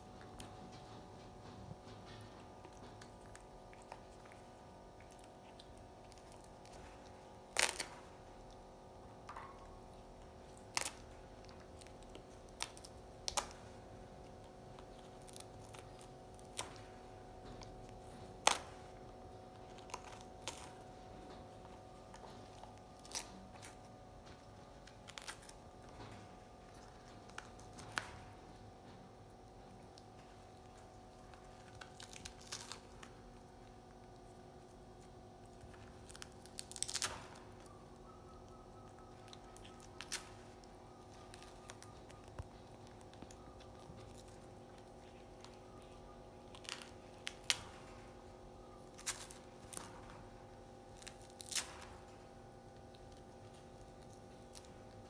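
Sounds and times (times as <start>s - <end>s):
faint steady hum: 0.0s - 55.0s
monkey chewing seed pod crunches: 0.0s - 55.0s.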